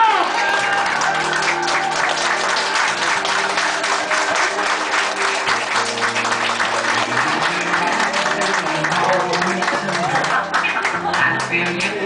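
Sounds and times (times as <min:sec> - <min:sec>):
audience applauding: 0:00.0 - 0:12.0
background music: 0:00.0 - 0:12.0.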